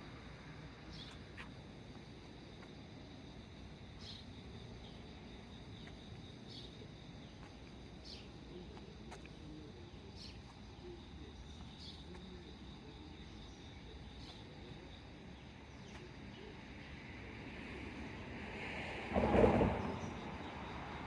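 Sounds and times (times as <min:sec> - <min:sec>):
insect chorus: 0:00.0 - 0:21.0.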